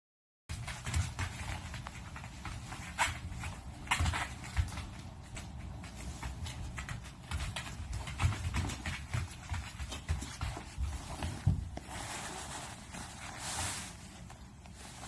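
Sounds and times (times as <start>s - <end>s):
puppies scuffling: 0.5s - 15.0s.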